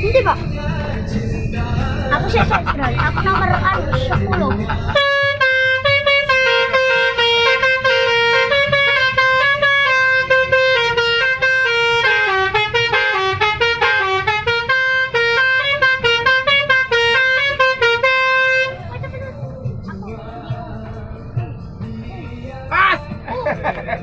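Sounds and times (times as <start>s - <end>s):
musical bus horn tune: 0.0s - 23.2s.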